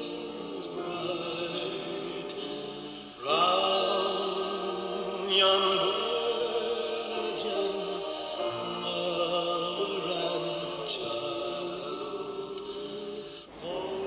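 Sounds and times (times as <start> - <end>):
chant-like music with held notes: 0.0 - 14.0.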